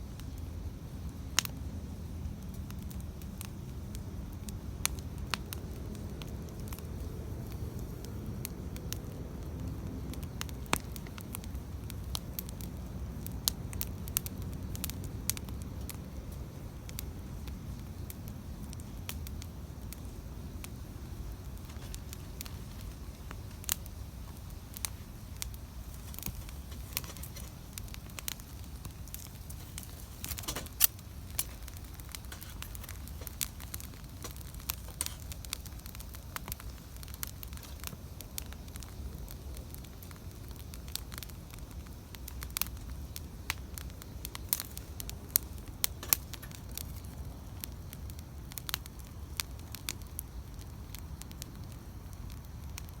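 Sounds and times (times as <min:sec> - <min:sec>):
campfire crackling and popping: 0:00.0 - 0:53.0
flames rustling: 0:00.0 - 0:53.0.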